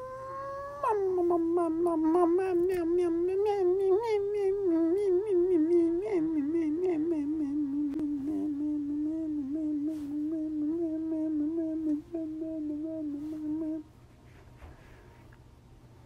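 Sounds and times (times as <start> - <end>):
person humming long note: 0.0 - 13.9.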